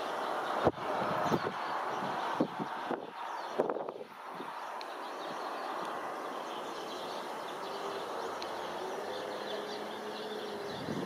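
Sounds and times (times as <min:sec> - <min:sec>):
distant traffic hum: 0:00.0 - 0:11.0
small birds chirping: 0:00.0 - 0:11.0.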